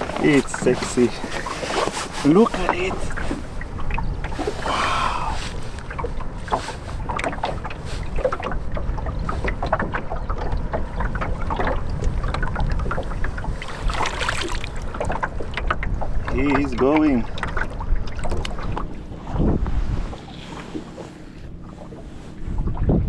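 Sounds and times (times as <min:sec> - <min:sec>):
water slapping against boat hull: 0:00.0 - 0:23.0
wind rumbling on microphone: 0:00.0 - 0:23.0.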